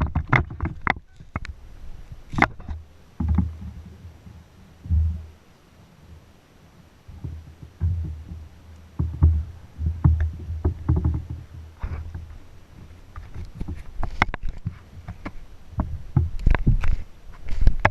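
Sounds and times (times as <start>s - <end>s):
sharp clicks and knocks: 0.0s - 1.6s, 2.3s - 5.2s, 7.1s - 12.4s, 13.1s - 17.9s
low uneven rumble: 0.0s - 17.9s.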